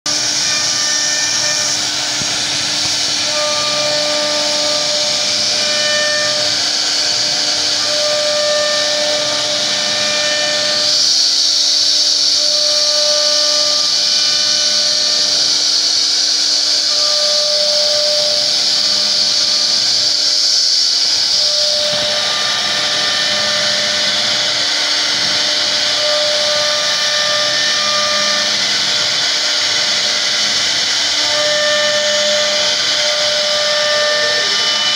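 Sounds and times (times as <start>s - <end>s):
router cutter whining in wood: 0.1s - 34.9s.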